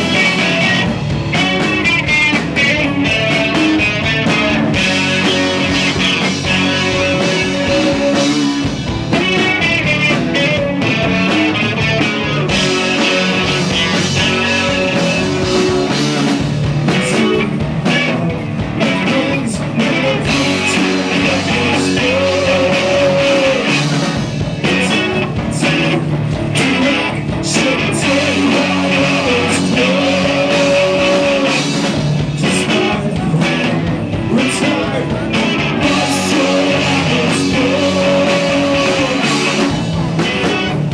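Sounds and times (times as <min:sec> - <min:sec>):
drums: 0:00.0 - 0:40.9
electric guitars: 0:00.0 - 0:40.9
person singing: 0:00.0 - 0:40.9.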